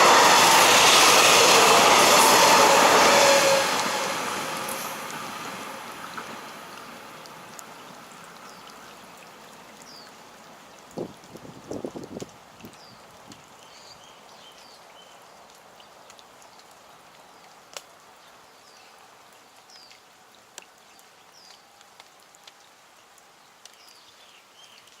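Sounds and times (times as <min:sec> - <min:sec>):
faint outdoor hiss: 0:04.2 - 0:25.0.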